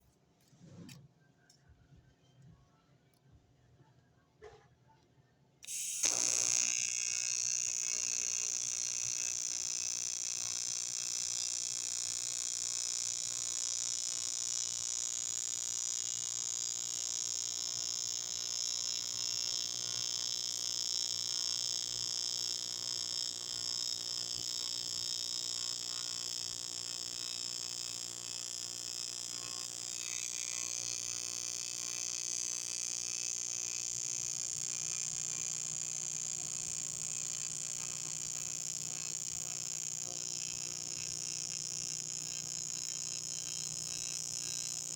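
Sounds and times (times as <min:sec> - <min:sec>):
welding arc buzzing: 0:05.6 - 0:44.9.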